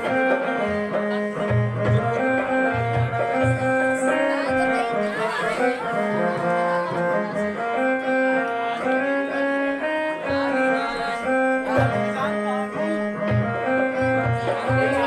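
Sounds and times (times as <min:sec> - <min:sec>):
instrumental melody of held notes: 0:00.0 - 0:15.0.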